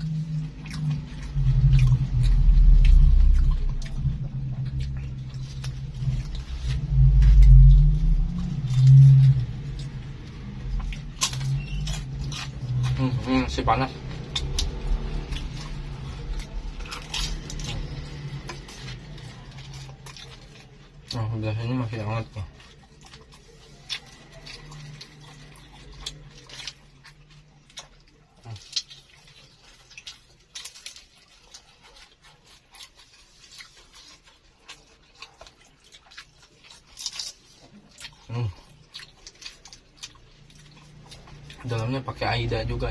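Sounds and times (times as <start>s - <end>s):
crunchy chewing: 0.0s - 42.9s
low steady hum: 0.0s - 42.9s
wet squishing chewing: 0.0s - 42.9s.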